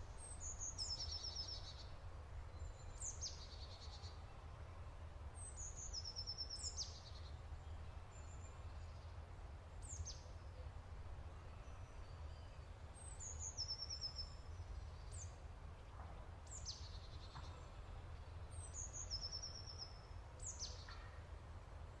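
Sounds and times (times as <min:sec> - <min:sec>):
small bird singing: 0:00.0 - 0:04.4, 0:05.4 - 0:09.2, 0:09.8 - 0:10.6, 0:11.4 - 0:15.5, 0:16.4 - 0:21.2.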